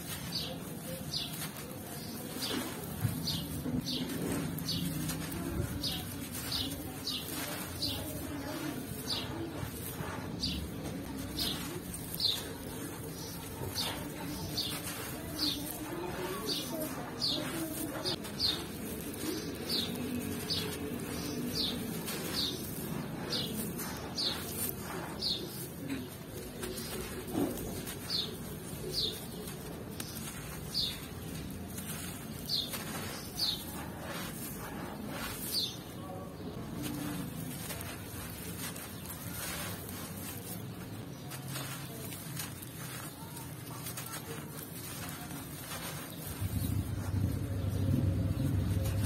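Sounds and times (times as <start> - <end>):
grains and gravel pouring: 0.0 - 49.0
gritty dirt crunching: 0.0 - 49.0.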